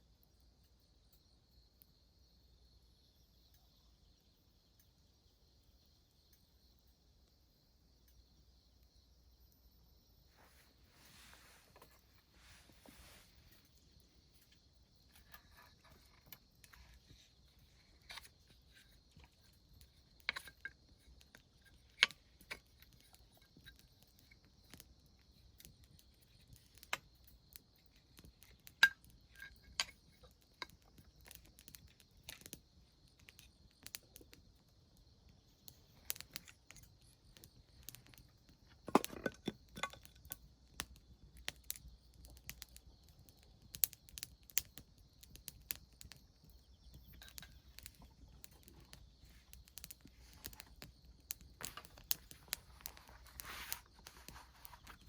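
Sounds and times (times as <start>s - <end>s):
campfire crackling: 3.0s - 55.0s.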